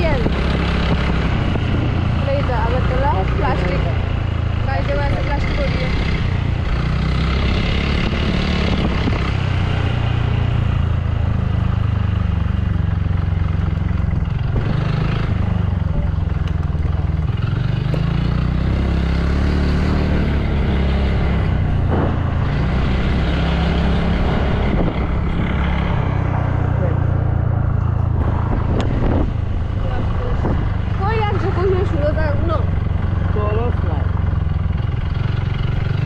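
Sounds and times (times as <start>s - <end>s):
road and wind noise: 0.0s - 36.0s
small vehicle engine running: 0.0s - 36.0s.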